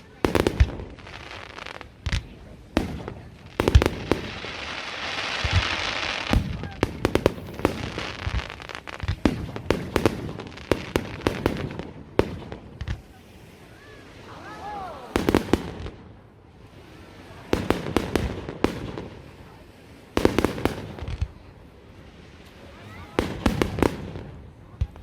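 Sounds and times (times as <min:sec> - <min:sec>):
crackling hiss: 0:00.0 - 0:25.0.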